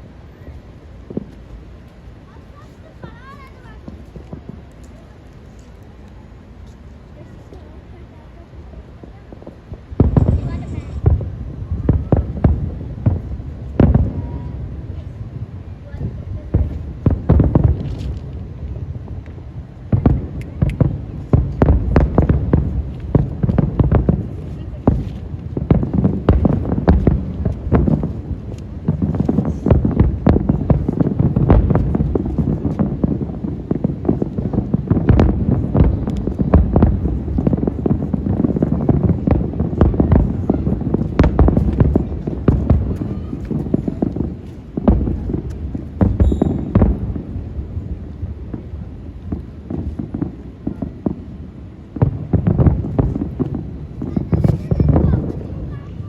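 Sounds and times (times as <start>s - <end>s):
fireworks bangs: 1.0s - 56.0s
wind on microphone: 9.1s - 56.0s.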